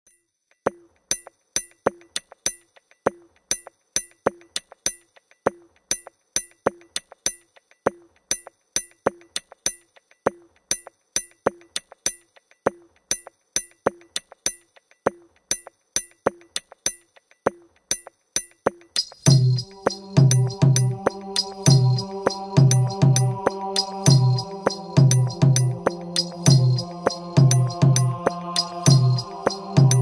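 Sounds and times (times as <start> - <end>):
percussive clicking music: 0.5 - 30.0.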